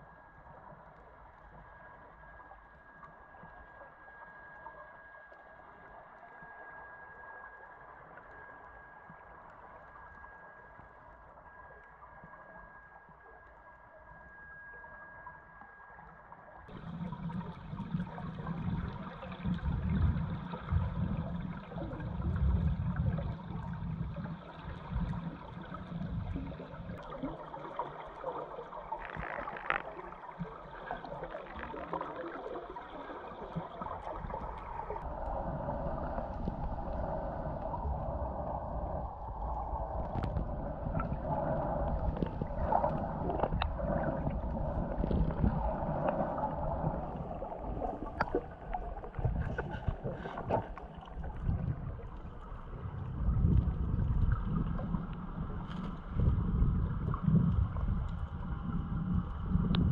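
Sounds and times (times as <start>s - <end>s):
underwater rumble and gurgling: 0.0s - 59.9s.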